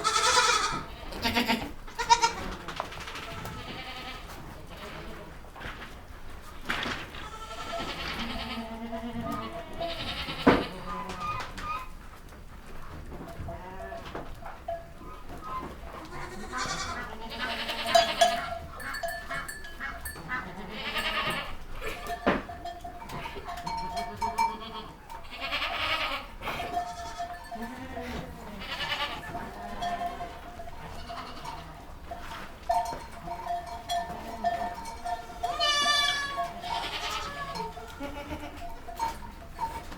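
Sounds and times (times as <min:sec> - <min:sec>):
goats bleating: 0:00.0 - 0:05.4, 0:07.1 - 0:11.9, 0:15.3 - 0:39.9.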